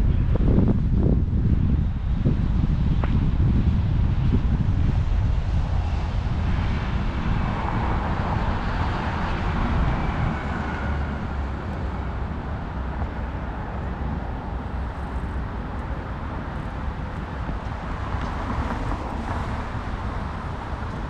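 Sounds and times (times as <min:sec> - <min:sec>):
city traffic: 0:00.0 - 0:21.0
low wind rumble on microphone: 0:00.0 - 0:21.0.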